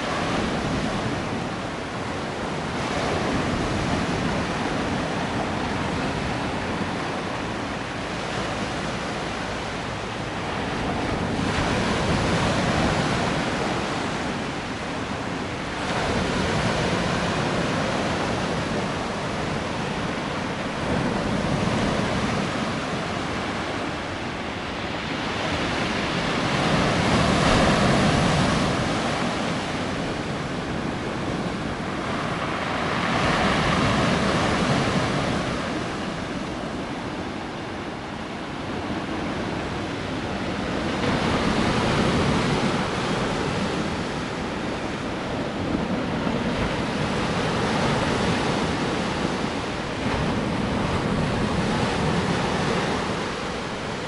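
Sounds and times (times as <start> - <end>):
waves breaking on shore: 0.0 - 54.0
wind on microphone: 0.0 - 54.0.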